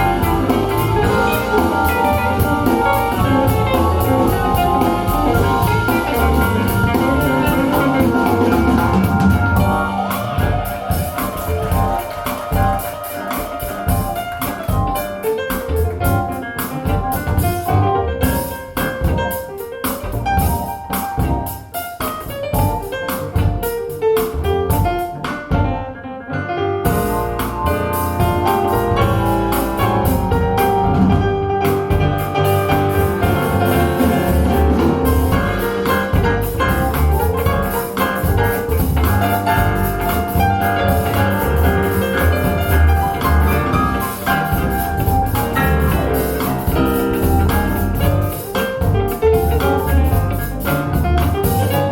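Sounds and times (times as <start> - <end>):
piano music through speakers: 0.0 - 51.9.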